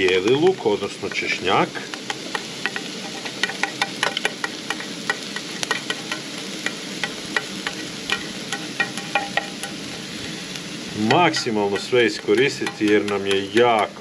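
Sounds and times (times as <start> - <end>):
food sizzling and crackling in oil: 0.0 - 14.0.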